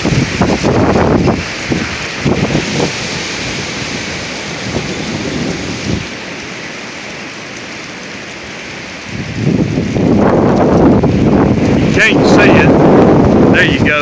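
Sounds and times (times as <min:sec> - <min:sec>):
wind buffeting microphone: 0:00.0 - 0:06.9, 0:08.4 - 0:14.0
strong wind gusts: 0:00.0 - 0:14.0.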